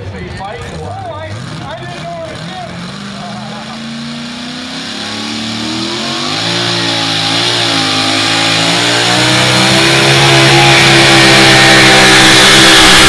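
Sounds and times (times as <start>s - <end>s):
truck engine revving under load: 0.7s - 13.0s.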